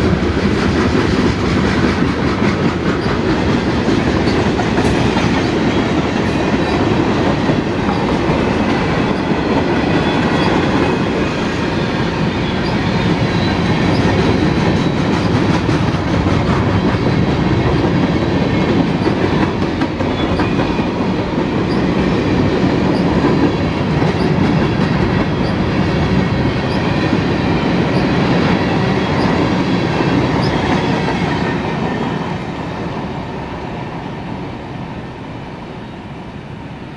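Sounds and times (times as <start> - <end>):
freight train wheels clattering on rail: 0.0 - 33.7.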